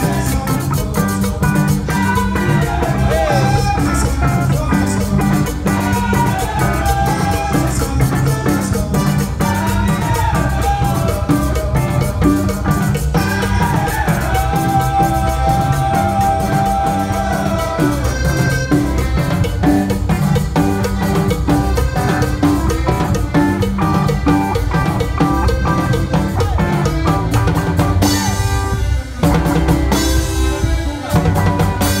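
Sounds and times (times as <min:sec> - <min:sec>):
drum kit beat: 0:00.0 - 0:32.0
live band music: 0:00.0 - 0:32.0.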